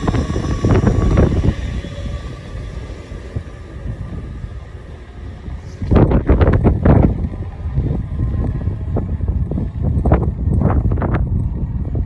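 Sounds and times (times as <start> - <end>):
train knocks: 0.0 - 11.4
faint steady whine: 0.0 - 12.0
train rumbling: 0.0 - 12.0.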